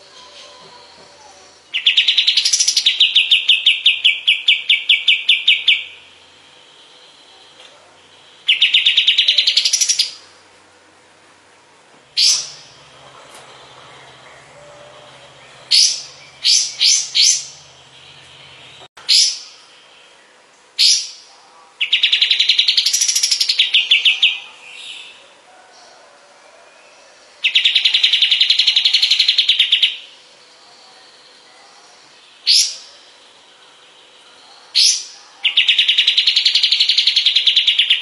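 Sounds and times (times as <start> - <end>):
bird singing with trills: 0.0 - 6.2, 6.8 - 10.3, 12.1 - 25.2, 26.7 - 38.0.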